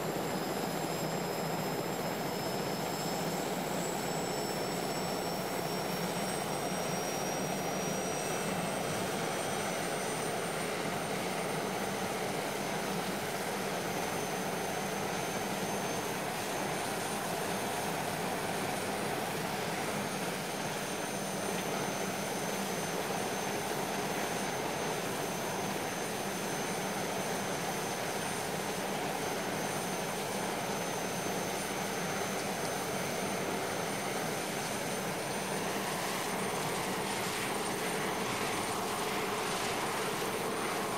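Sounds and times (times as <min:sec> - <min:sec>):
jet engine roar and whine: 0:00.0 - 0:40.9.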